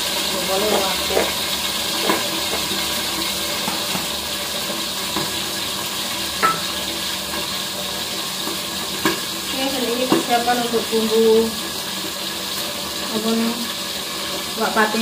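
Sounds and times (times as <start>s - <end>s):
chillies sizzling in oil: 0.0s - 15.0s.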